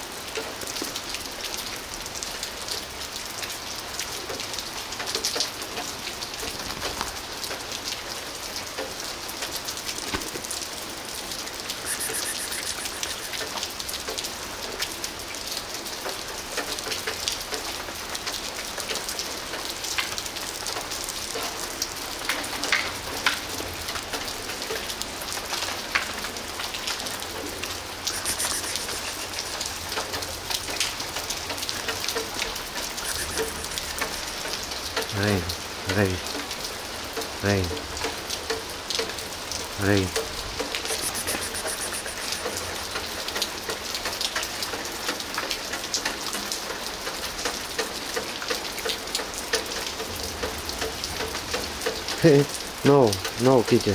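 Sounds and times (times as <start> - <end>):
raindrops ticking: 0.0 - 53.9
steady rain falling: 0.0 - 53.9.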